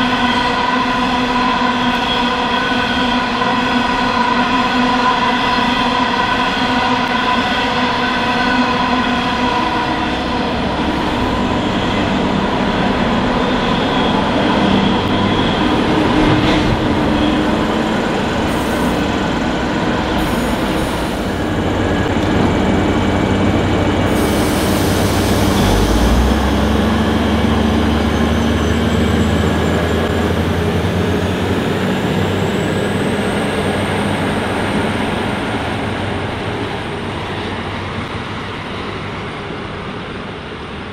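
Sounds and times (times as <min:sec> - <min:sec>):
diesel railcar engine rumbling: 0:00.0 - 0:40.9.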